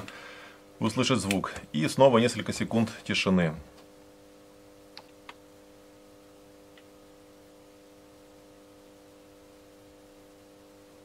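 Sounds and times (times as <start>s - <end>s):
fluorescent lamps humming: 0.0s - 11.0s.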